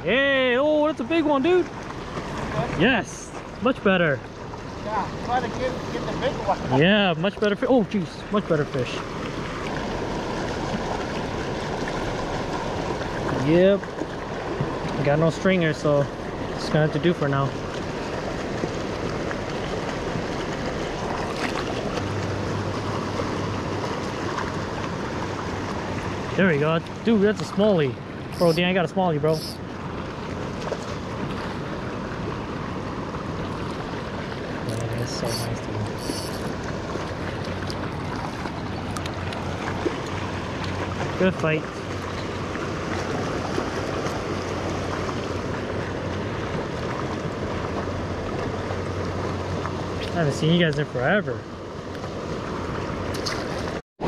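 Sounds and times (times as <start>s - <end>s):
river water rushing over riffles: 0.0s - 53.8s.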